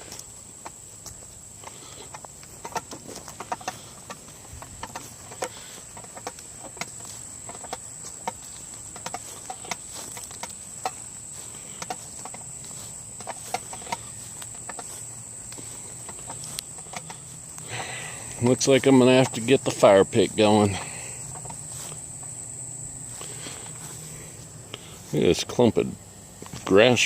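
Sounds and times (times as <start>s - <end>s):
footsteps crunching on branches: 0.0s - 25.6s
high-pitched insect drone: 0.0s - 27.0s.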